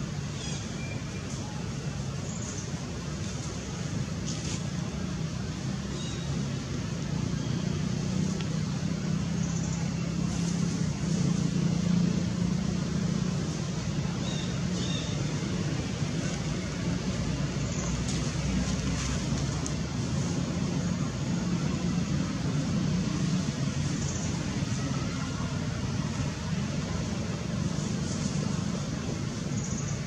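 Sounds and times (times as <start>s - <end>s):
background rush: 0.0s - 30.0s
vehicle engine humming: 0.0s - 30.0s.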